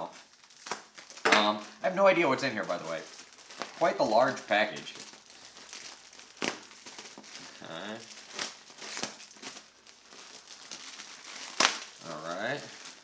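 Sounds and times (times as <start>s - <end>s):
plastic bag crinkling and tearing: 0.0s - 13.0s.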